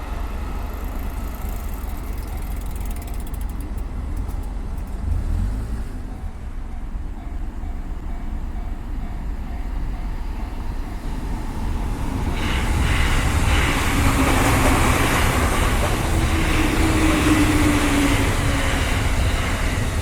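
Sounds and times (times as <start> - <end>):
train rushing on rails: 0.0 - 20.0.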